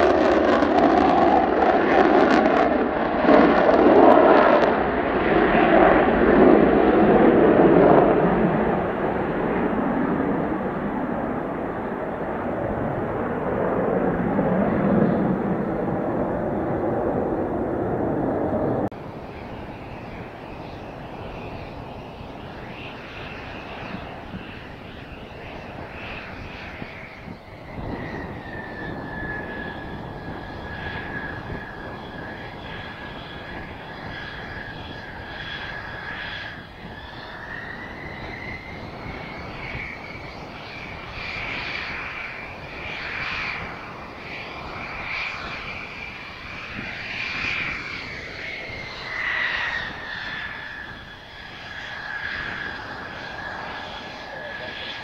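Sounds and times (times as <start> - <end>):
jet engine whine and rumble: 0.0 - 55.0.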